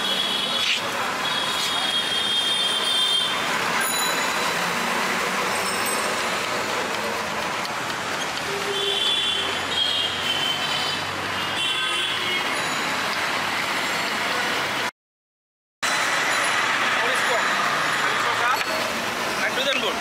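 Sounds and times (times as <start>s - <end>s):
street traffic: 0.0s - 15.0s, 15.8s - 20.0s.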